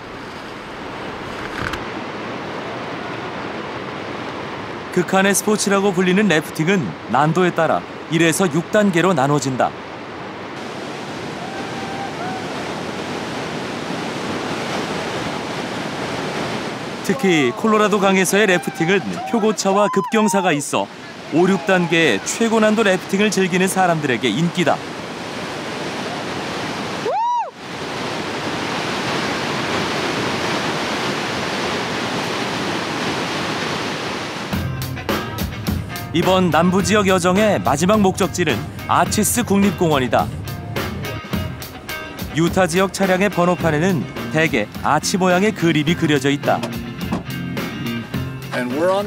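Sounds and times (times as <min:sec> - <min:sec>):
river rapids rushing: 0:00.0 - 0:34.6, 0:35.9 - 0:46.6.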